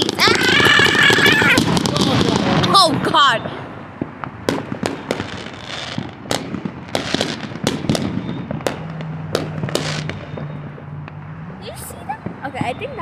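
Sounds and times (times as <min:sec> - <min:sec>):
fireworks bangs and cracks: 0:00.0 - 0:13.0
fireworks crackling: 0:00.0 - 0:13.0.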